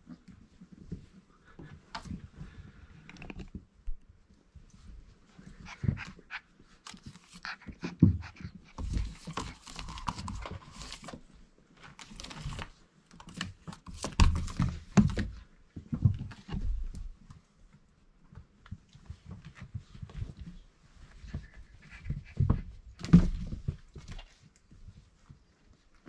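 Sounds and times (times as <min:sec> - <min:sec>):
puppies scuffling on blankets: 0:00.0 - 0:02.9, 0:04.3 - 0:26.0.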